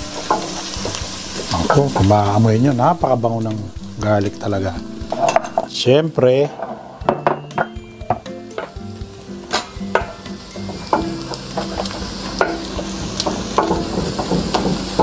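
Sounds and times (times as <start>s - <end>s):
garlic sizzling in butter: 0.0s - 5.7s, 6.6s - 15.0s.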